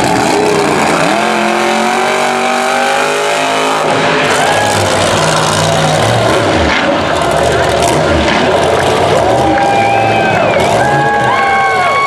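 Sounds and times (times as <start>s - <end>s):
monster truck engine high revs: 0.0s - 12.0s.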